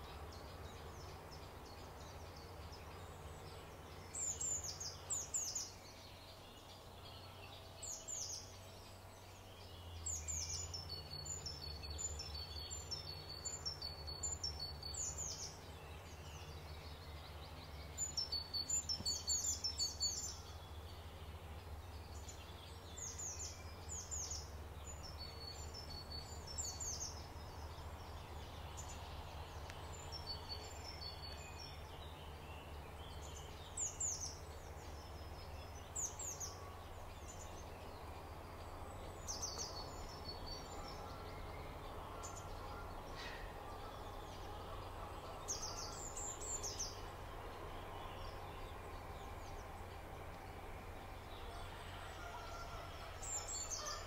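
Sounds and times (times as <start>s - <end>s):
low background rumble: 0.0s - 54.0s.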